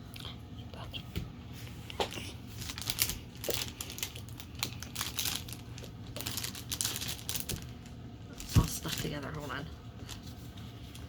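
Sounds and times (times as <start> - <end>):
packaging crinkling and rustling: 2.0 - 11.0.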